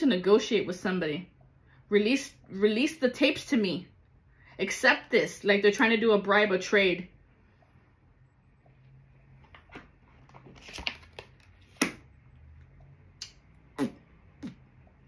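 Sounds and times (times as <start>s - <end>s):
faint low hum: 0.1s - 15.0s.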